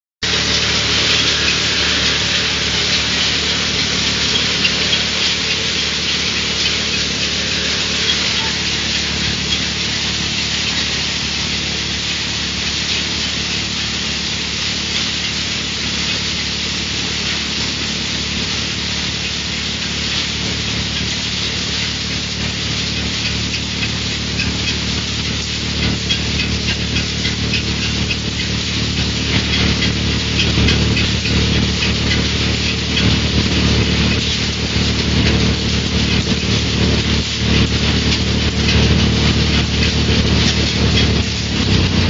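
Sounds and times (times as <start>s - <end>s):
motor hum: 0.2s - 42.0s.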